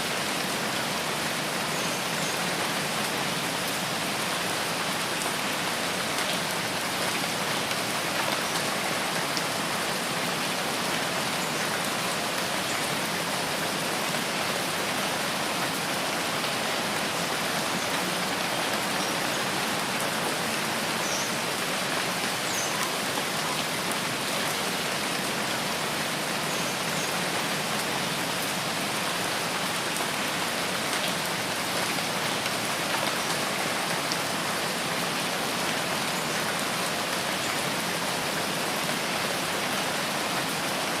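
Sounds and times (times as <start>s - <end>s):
rain falling on foliage: 0.0s - 41.0s.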